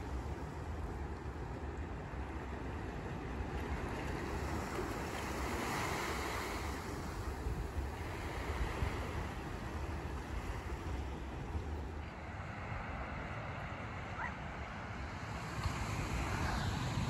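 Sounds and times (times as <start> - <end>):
sea waves washing onto beach: 0.0 - 17.0
wind rumbling on microphone: 0.0 - 17.0.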